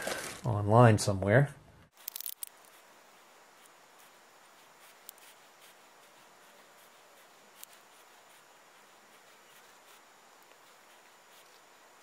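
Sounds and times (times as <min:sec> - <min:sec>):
faint steady hiss: 0:00.0 - 0:12.0
light rubbing: 0:01.9 - 0:12.0
small ticks: 0:01.9 - 0:12.0.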